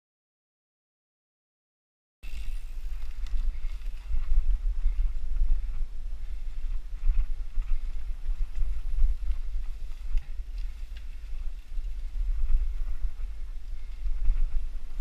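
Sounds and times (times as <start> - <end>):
bike clicks and rattles: 2.2 - 15.0
wind buffeting microphone: 2.2 - 15.0.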